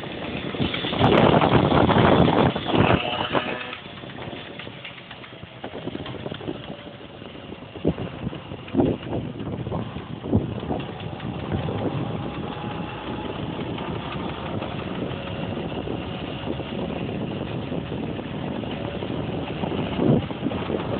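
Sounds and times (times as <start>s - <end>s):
moped engine running: 0.0s - 20.9s.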